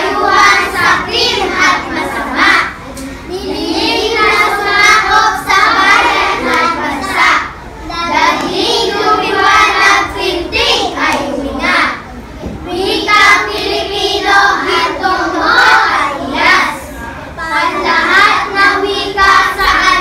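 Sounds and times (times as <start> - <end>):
children speaking in unison: 0.0 - 20.0.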